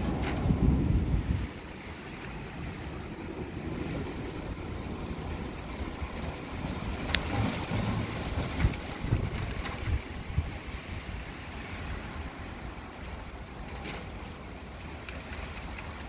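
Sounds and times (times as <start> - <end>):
storm wind gusting: 0.0 - 16.0.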